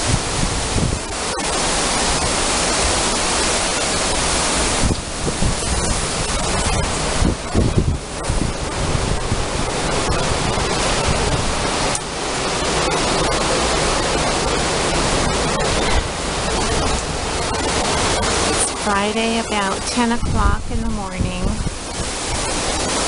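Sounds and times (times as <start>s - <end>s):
heavy rain hissing: 0.0s - 23.0s
wind buffeting microphone: 0.0s - 23.0s.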